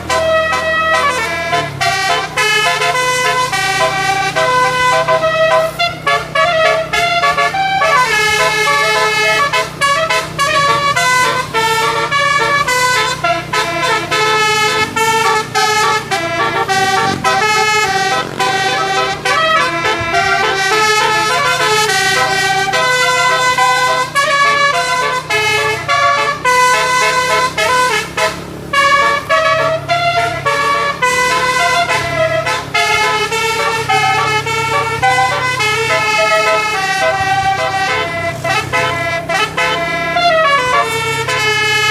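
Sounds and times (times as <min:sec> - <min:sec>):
bus horn playing melody: 0:00.0 - 0:41.9.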